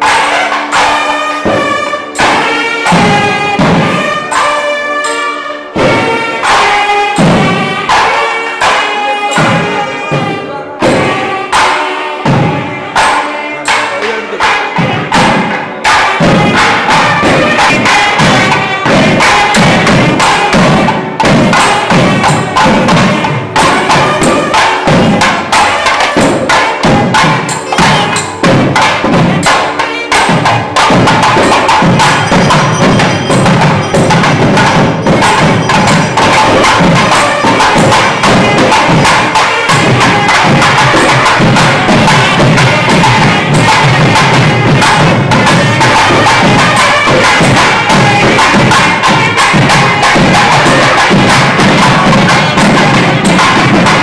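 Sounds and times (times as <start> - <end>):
drums in fast rhythm: 0.0 - 54.0
reed instrument melody: 0.0 - 54.0.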